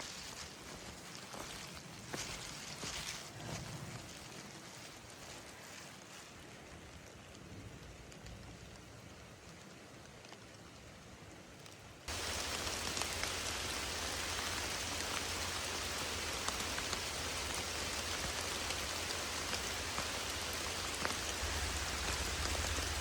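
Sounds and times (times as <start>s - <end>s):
steady rain falling: 0.0s - 23.0s
raindrops ticking close by: 4.0s - 23.0s.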